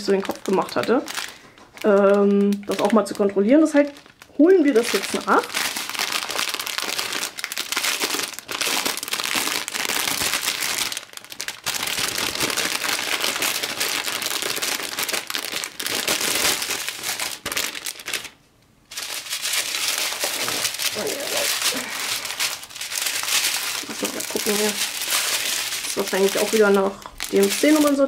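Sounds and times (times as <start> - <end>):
plastic bags crinkling: 0.0 - 28.0.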